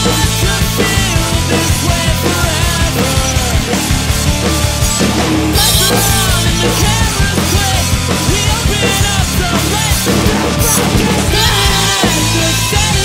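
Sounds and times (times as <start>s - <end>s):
acoustic drum kit played hard: 0.0s - 13.0s
recorded rock song: 0.0s - 13.0s.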